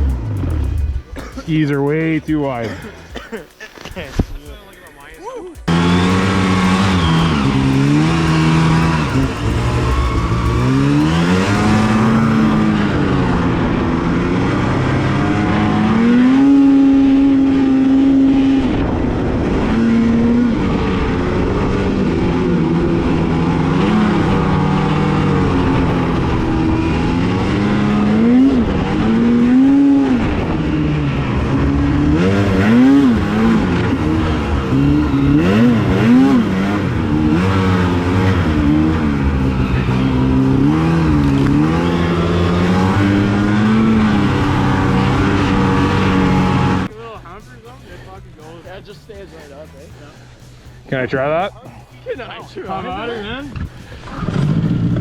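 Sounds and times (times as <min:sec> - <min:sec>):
snowmobile engine revving: 0:00.0 - 0:46.9, 0:52.4 - 0:55.0.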